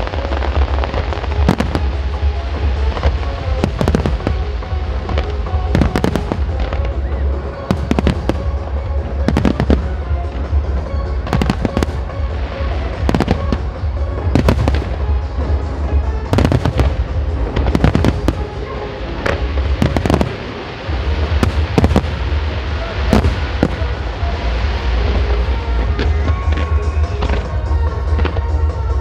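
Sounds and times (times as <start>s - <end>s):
dense low rumble: 0.0s - 29.0s.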